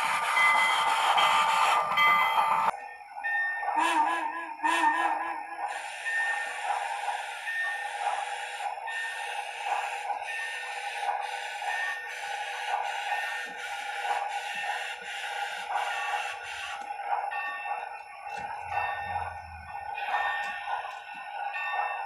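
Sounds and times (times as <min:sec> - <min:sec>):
steam engine chuffing: 0:00.0 - 0:02.7, 0:03.6 - 0:22.0.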